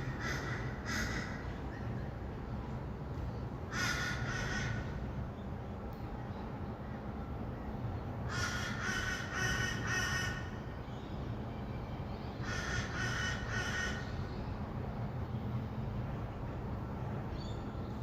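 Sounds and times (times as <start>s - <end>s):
distant city traffic hum: 0.0s - 18.0s.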